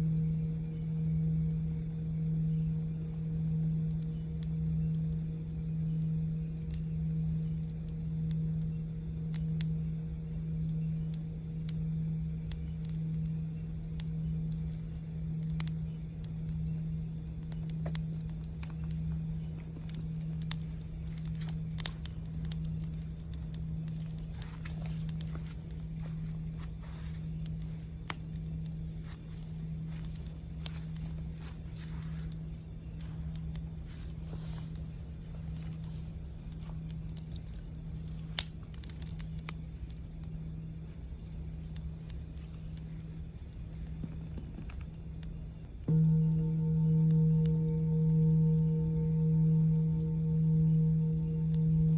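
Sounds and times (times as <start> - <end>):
campfire crackling and popping: 0.0 - 51.9
singing bowl hum: 0.0 - 51.9.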